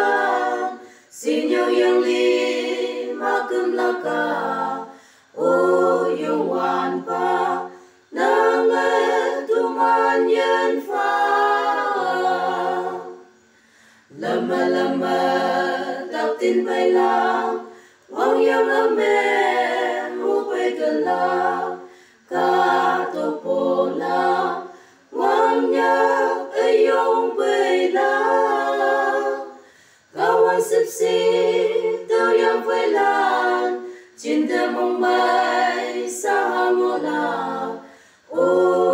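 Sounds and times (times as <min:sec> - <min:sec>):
voices singing in harmony: 0:00.0 - 0:38.9.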